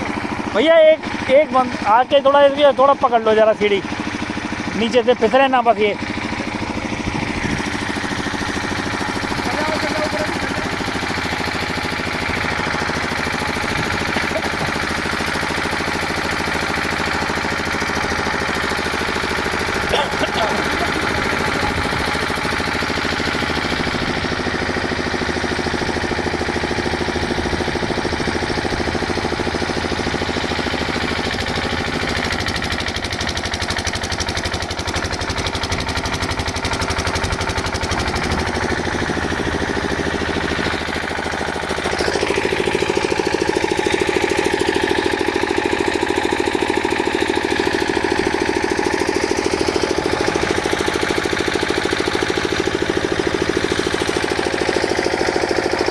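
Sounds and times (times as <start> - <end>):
welding machine hum: 6.0 - 55.9.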